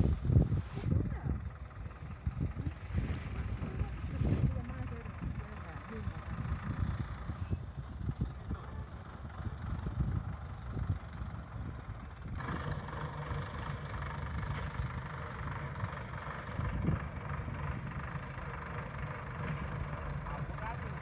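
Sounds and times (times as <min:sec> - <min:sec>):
baler engine running: 0:00.0 - 0:21.0.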